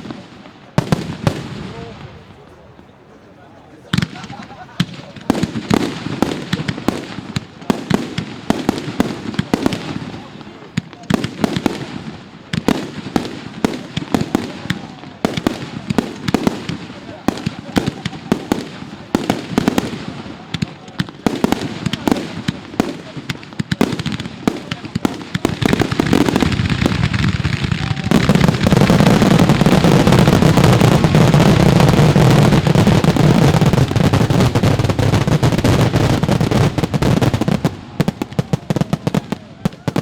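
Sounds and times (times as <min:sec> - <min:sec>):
fireworks bangs and pops: 0:00.0 - 0:02.9, 0:03.8 - 0:40.0
fireworks crackling barrage: 0:00.0 - 0:40.0.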